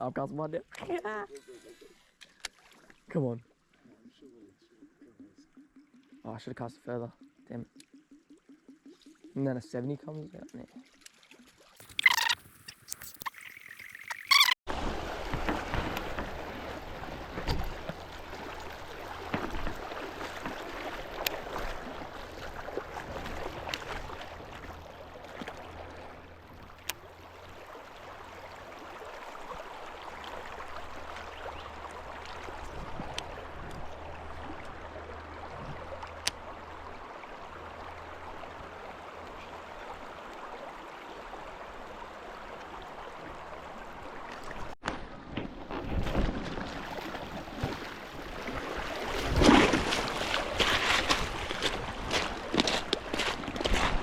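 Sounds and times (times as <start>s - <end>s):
flowing river water: 0.8s - 54.0s.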